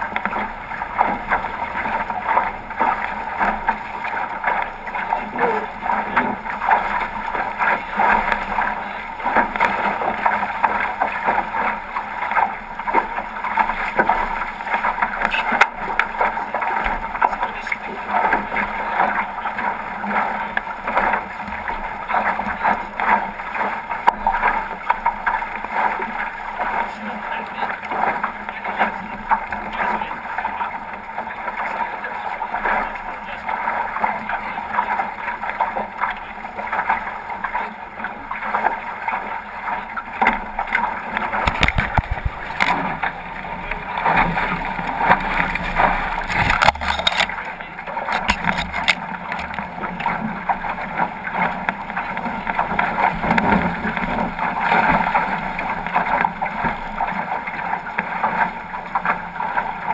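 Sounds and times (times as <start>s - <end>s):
water rushing along hull: 0.0s - 59.9s.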